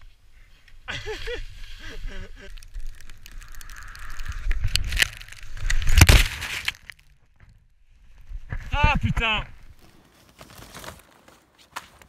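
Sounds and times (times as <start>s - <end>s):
snow crunching on camera: 0.9s - 7.1s, 8.2s - 12.0s.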